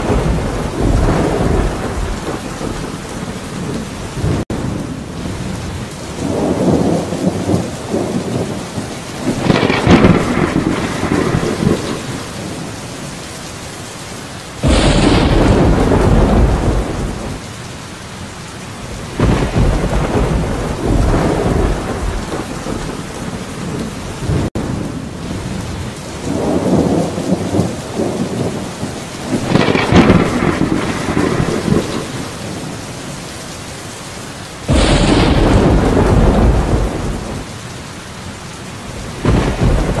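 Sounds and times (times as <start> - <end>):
thunder rolling: 0.0 - 5.4, 6.1 - 12.8, 14.6 - 17.5, 18.9 - 25.6, 26.2 - 32.8, 34.6 - 37.6, 38.9 - 40.0
steady rain: 0.0 - 40.0.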